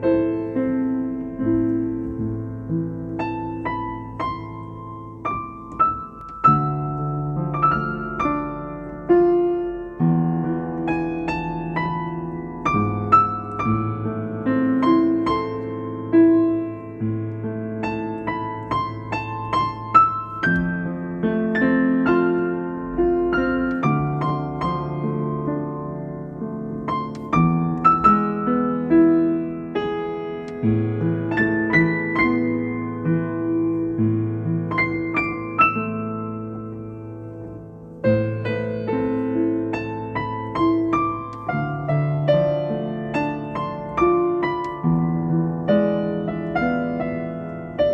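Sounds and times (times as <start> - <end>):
slow solo piano: 0.0 - 47.9.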